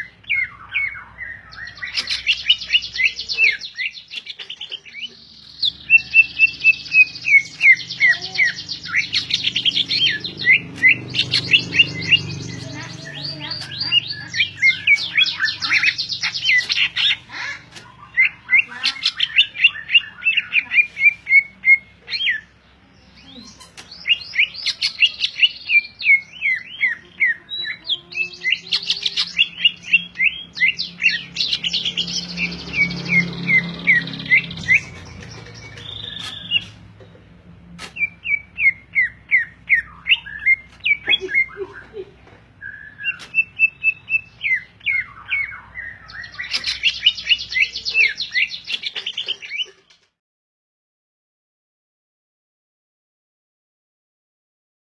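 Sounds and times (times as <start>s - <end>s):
bird chirping and warbling: 0.0s - 50.2s.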